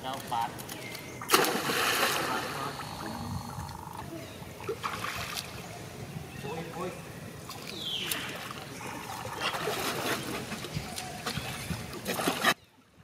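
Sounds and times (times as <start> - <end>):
water splashing and sloshing: 0.2 - 6.2, 7.2 - 13.0.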